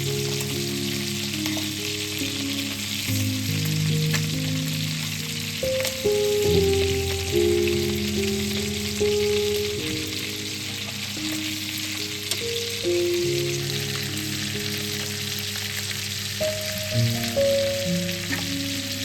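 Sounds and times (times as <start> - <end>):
background music with held notes: 0.0 - 19.0
food sizzling in a pan: 0.0 - 19.0.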